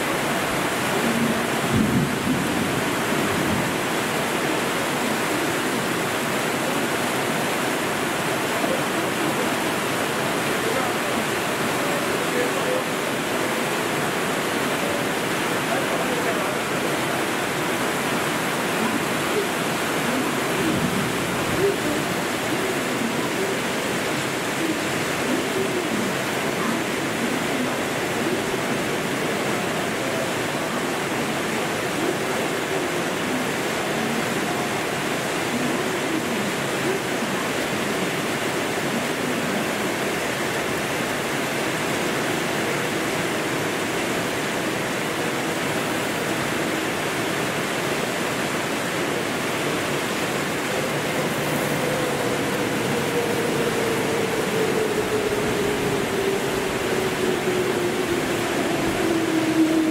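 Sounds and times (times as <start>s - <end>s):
torrential rain pouring: 0.0s - 59.9s.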